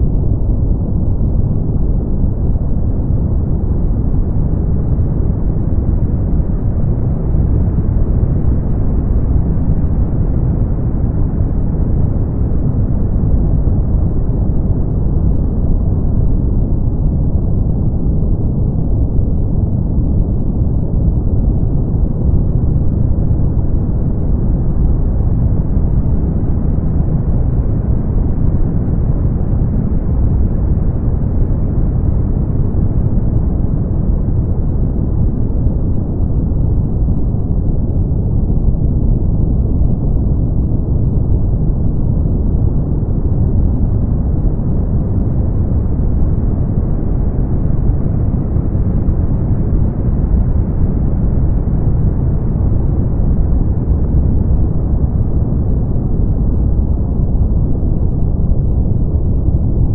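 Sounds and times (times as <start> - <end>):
deep steady brown noise hiss: 0.0 - 59.9.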